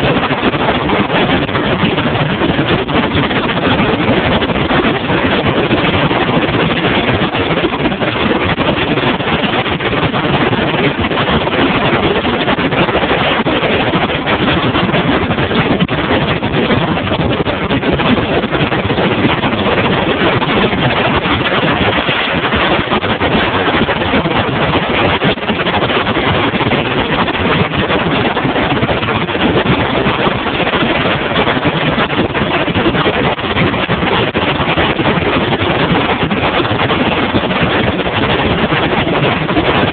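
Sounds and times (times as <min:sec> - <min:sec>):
outboard engine: 0:00.0 - 0:39.9
water rushing along hull: 0:00.0 - 0:39.9
wind buffeting microphone: 0:00.0 - 0:39.9.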